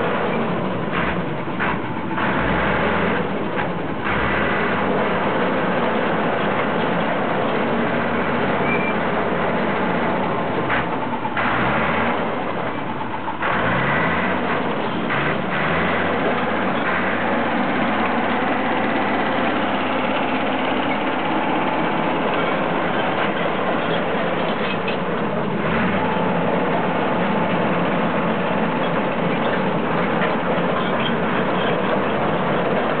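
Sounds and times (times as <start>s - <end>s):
bulldozer engine running: 0.0s - 33.0s.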